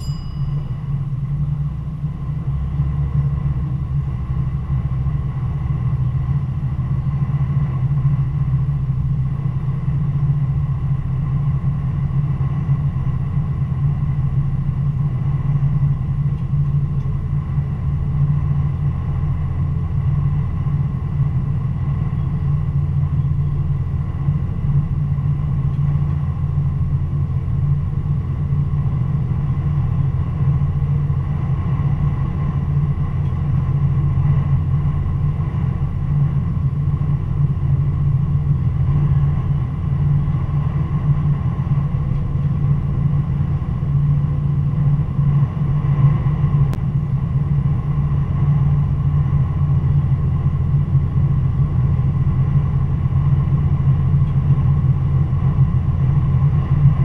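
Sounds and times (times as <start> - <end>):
train engine drone: 0.0 - 57.0
wheels rumbling on rails: 0.0 - 57.0.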